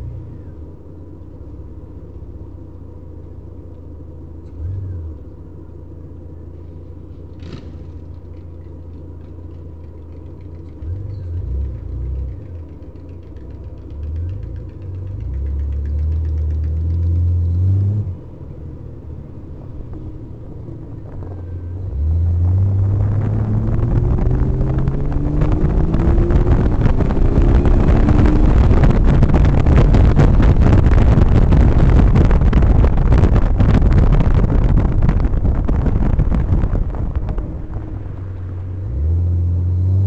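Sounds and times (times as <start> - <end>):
wind and road noise rush: 0.0 - 40.0
car engine revving: 7.1 - 40.0.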